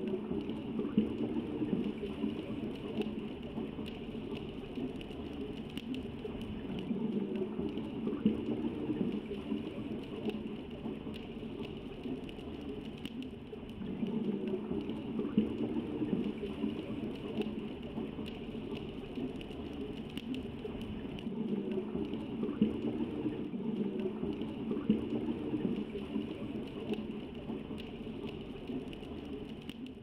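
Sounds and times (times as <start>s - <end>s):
underwater bubbling rush: 0.0s - 30.0s.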